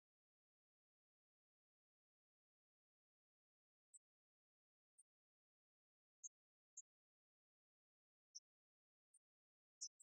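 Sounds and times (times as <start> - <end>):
faint high-pitched chirps: 1.0 - 10.0.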